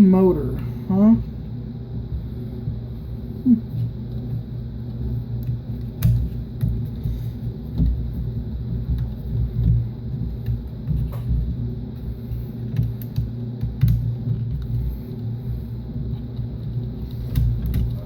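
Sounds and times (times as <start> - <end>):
low rumble and hum: 0.0 - 18.0.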